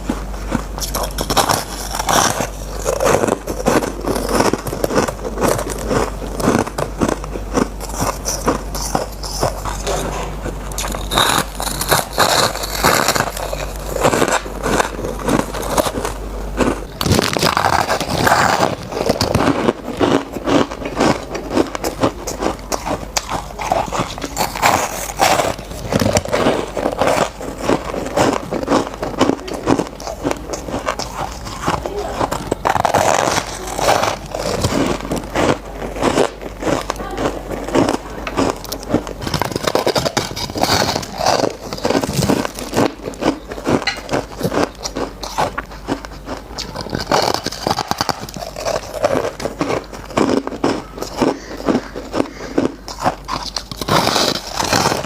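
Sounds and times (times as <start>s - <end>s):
chewing crunchy shaved ice: 0.0s - 55.0s.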